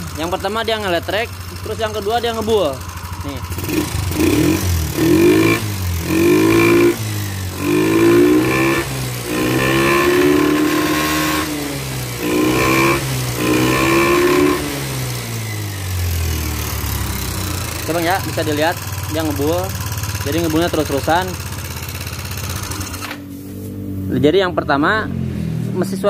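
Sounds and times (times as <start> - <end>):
engine rattle: 0.0 - 23.2
scooter engine revving: 0.0 - 26.0.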